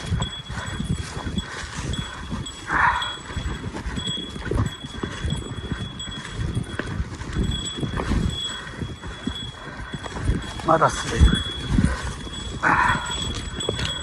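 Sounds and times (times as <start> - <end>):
boot footsteps on trail: 0.0 - 14.0.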